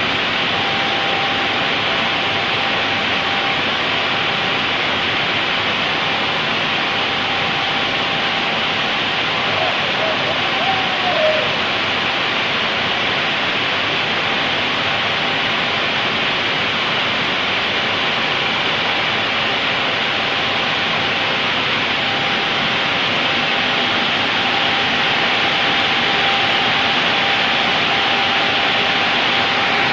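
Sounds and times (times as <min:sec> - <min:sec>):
faint machine whine: 0:00.0 - 0:29.9
spraying water rushing: 0:00.0 - 0:29.9.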